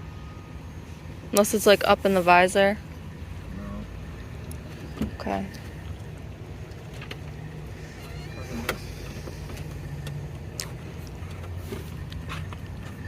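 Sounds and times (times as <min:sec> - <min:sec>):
low vehicle hum: 0:00.0 - 0:13.0.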